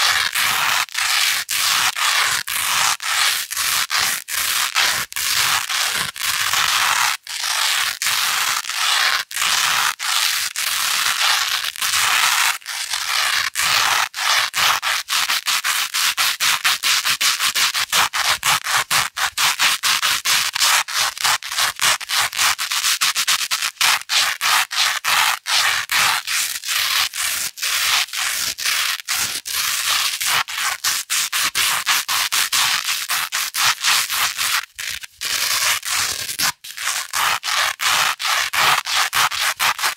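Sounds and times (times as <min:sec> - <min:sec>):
velcro scratching: 0:00.0 - 0:39.9.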